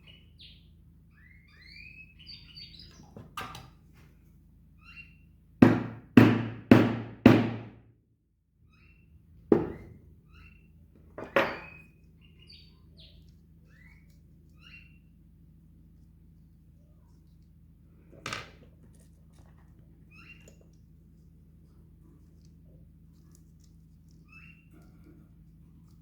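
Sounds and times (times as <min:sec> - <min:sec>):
small birds chirping: 0:00.0 - 0:05.6, 0:08.6 - 0:26.0.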